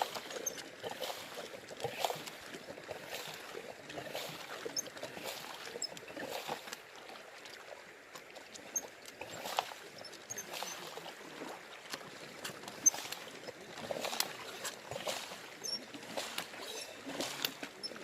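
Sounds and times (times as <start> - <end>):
water splashing in shallows: 0.0 - 18.0.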